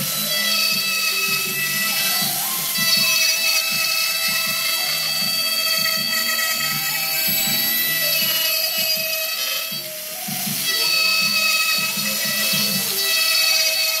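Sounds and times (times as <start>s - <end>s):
end mill cutting metal: 0.0s - 14.0s
milling spindle whine: 0.0s - 14.0s.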